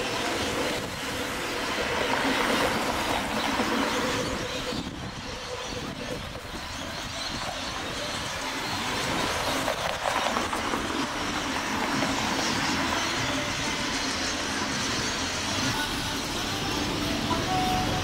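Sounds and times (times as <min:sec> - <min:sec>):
vehicles passing on street: 0:00.0 - 0:18.0.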